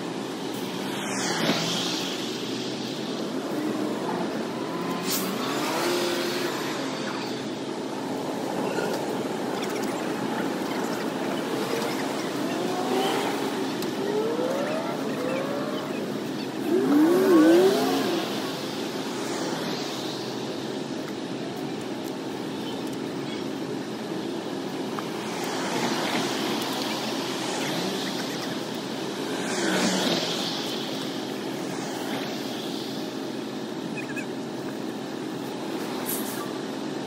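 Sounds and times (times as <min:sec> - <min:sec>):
engines running: 0:00.0 - 0:37.0.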